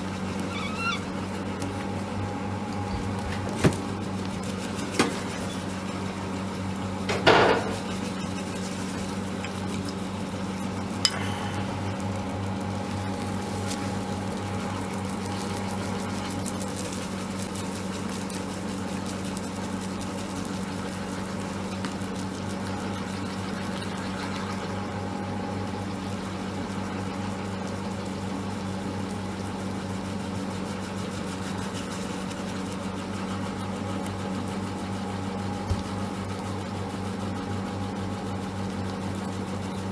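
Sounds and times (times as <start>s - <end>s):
bread machine motor humming: 0.0s - 39.9s.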